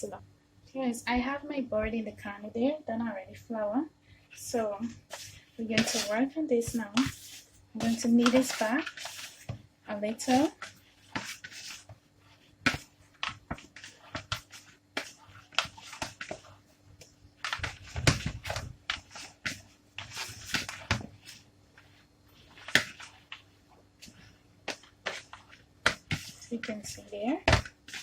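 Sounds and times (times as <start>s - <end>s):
hands kneading dough: 4.3s - 28.0s.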